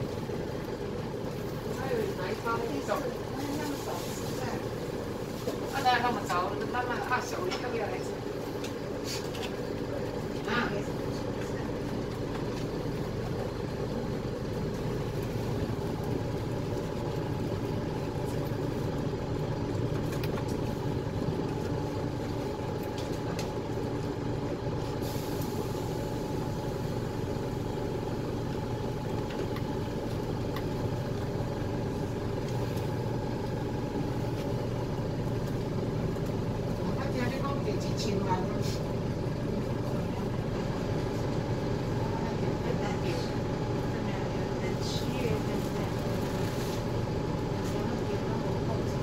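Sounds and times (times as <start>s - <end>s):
bus engine humming: 0.0s - 49.0s.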